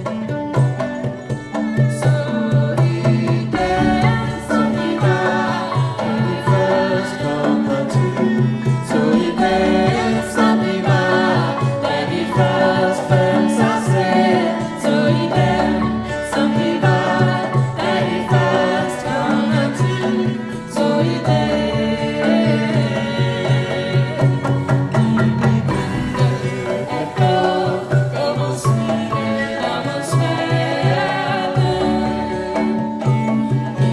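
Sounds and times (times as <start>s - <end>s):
cello: 0.0s - 33.9s
hand drums and drum kit: 0.0s - 33.9s
marimba: 0.0s - 33.9s
voices singing together: 1.6s - 33.9s.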